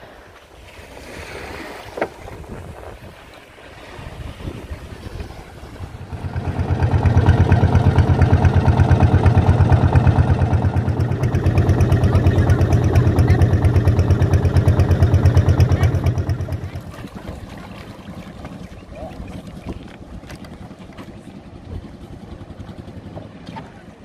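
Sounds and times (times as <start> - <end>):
motorboat engine throbbing: 3.8 - 24.0.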